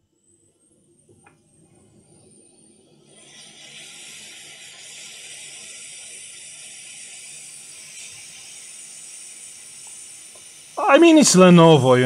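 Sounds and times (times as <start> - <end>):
hot air blower hissing: 2.1 - 12.0.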